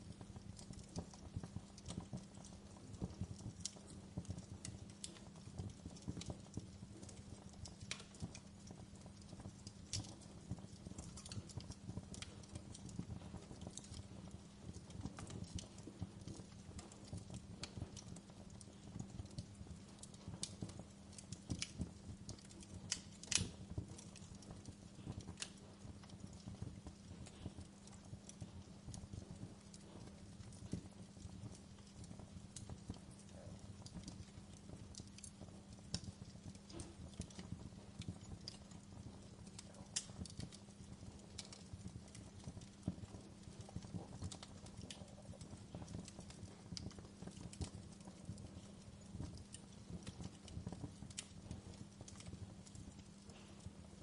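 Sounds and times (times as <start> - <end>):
fireplace crackling: 0.0 - 54.0.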